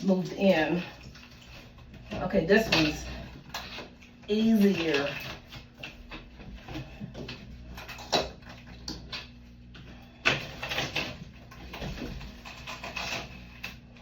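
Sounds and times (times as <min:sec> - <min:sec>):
shower door frame scraping and rattling: 0:00.0 - 0:08.8, 0:10.2 - 0:13.7.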